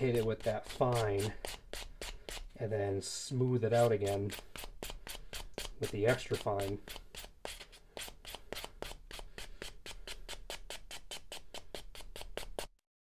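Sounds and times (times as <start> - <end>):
sanding block scratching plastic: 0.0 - 2.5, 3.8 - 12.8.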